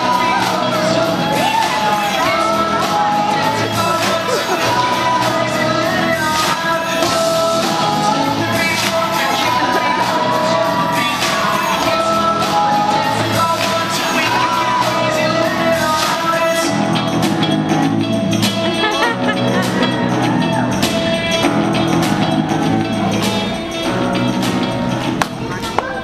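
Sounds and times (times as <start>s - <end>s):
pop song with vocals: 0.0s - 26.0s.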